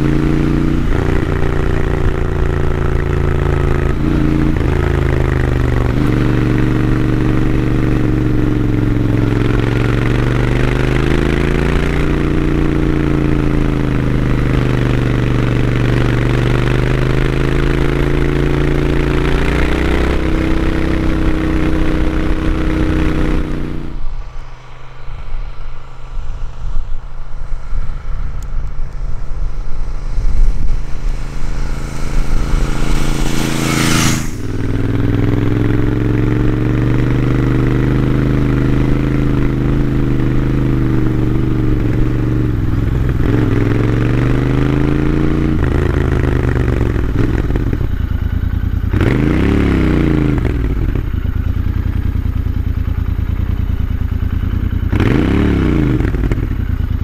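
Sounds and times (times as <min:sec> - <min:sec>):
distant motorcycle approaching: 0:00.0 - 0:57.0
motorcycle engine revving: 0:00.0 - 0:57.0.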